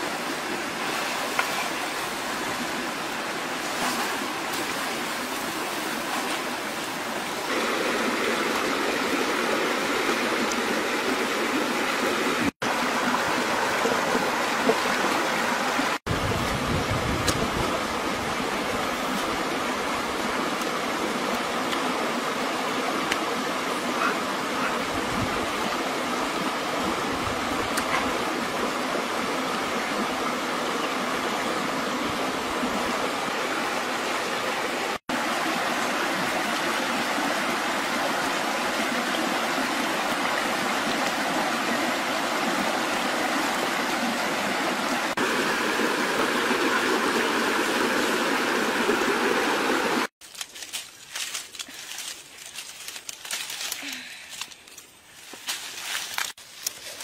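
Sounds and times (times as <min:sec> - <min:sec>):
stream rushing over rocks: 0:00.0 - 0:50.1.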